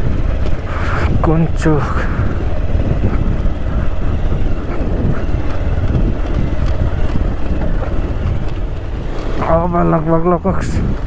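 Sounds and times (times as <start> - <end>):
knocks and rattles from bumps: 0.0 - 9.8
motorcycle engine at low speed: 0.0 - 11.0.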